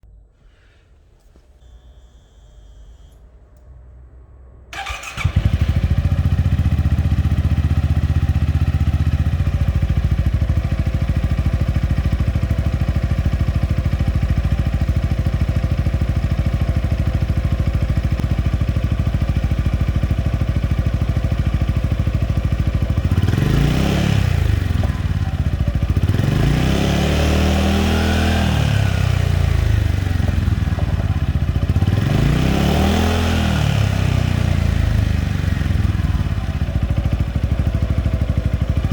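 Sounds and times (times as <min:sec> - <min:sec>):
scooter engine idling and revving: 0:04.7 - 0:38.9.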